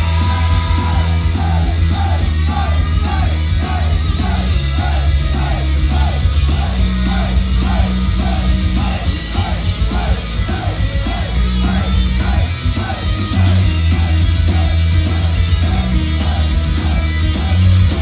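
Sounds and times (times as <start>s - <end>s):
people shouting: 0.0s - 18.0s
rock pop music over pa: 0.0s - 18.0s.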